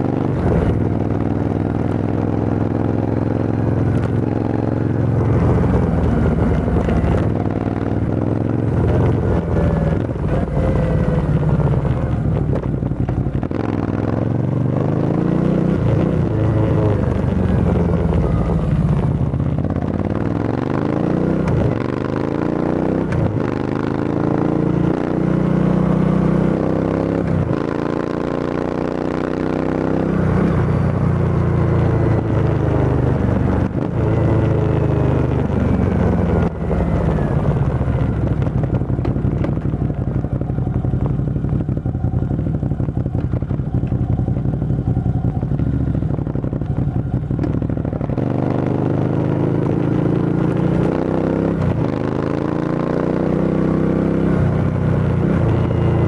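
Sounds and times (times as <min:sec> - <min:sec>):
motorcycle exhaust accelerating: 0:00.0 - 0:56.0.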